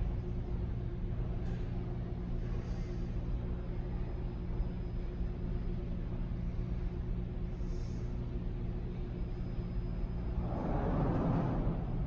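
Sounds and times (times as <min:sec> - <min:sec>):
subway station rumble and hum: 0:00.0 - 0:12.0.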